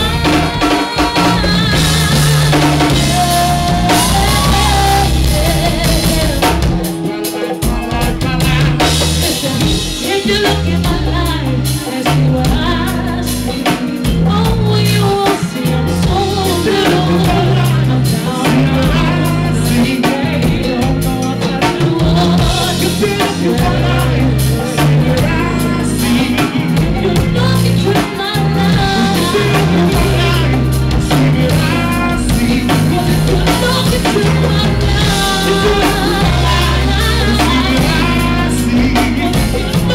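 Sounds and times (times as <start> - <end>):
bass line: 0.0 - 39.9
drum kit: 0.0 - 39.9
person singing: 0.0 - 39.9.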